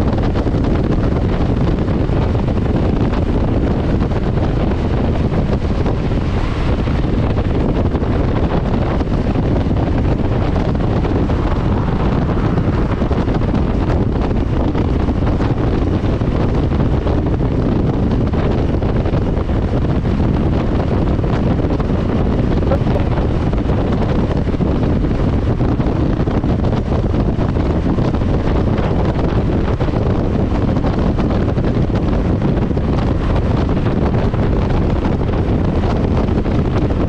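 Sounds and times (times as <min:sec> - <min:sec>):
motorcycle engine running: 0:00.0 - 0:37.0
wind rushing over microphone: 0:00.0 - 0:37.0.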